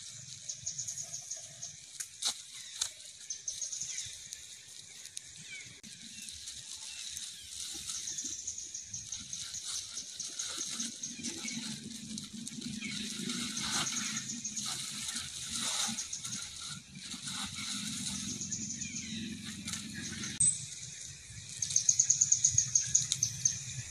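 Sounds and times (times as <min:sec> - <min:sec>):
insect drone pulsing: 0:03.3 - 0:23.9.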